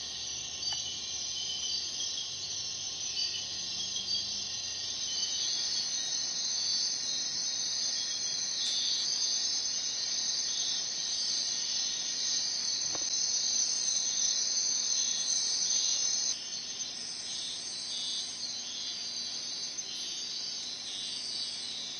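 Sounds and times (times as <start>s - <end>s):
crickets shrilling: 0.0s - 21.9s.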